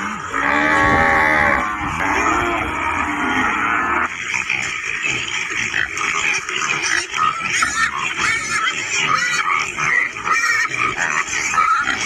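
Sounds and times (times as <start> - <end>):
pigs squealing and grunting: 0.0 - 12.0.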